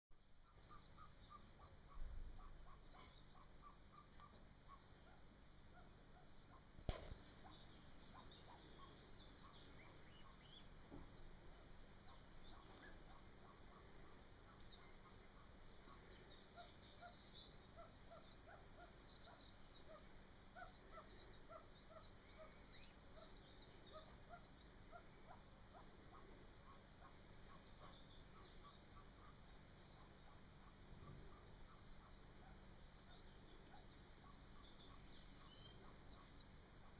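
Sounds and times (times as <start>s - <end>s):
chicks peeping: 0.4s - 36.9s.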